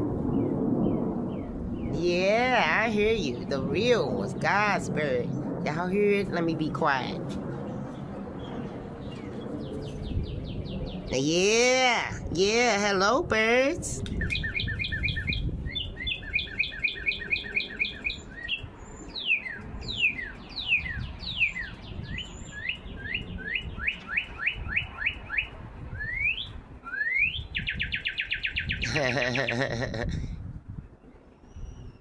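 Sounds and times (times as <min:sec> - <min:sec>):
birds singing: 0:00.3 - 0:05.8, 0:07.5 - 0:11.6, 0:14.1 - 0:30.0, 0:30.9 - 0:32.0.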